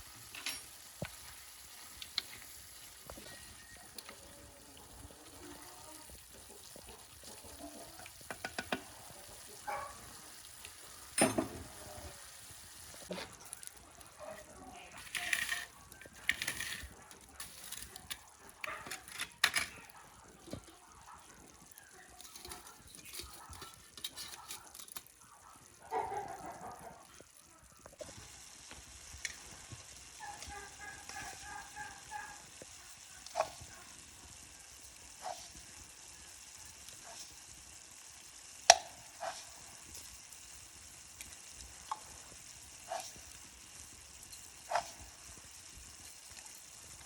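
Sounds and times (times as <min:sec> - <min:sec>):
flatbreads sizzling on griddle: 0:00.0 - 0:47.0.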